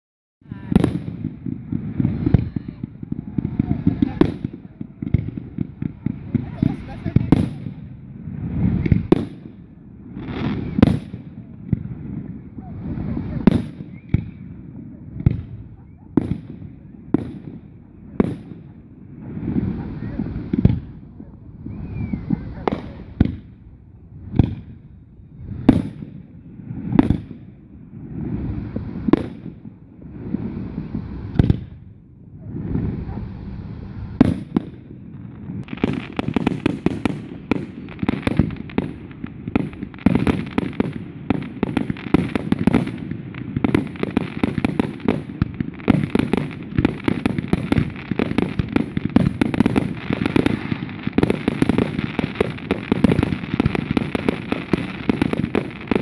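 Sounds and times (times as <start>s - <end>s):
fireworks booming and crackling: 0.4s - 56.0s.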